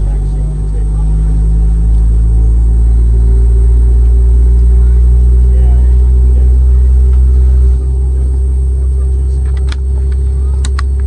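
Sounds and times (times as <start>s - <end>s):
jet engine rumble and whine: 0.0s - 11.0s.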